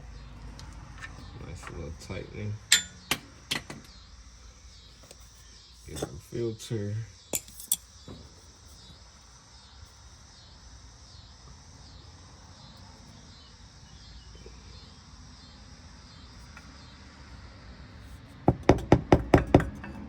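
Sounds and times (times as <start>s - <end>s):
insect chirping: 0.0s - 19.9s.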